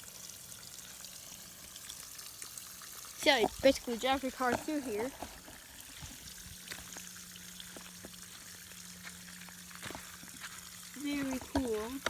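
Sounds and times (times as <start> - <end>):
water drips and splashes: 0.0 - 12.0.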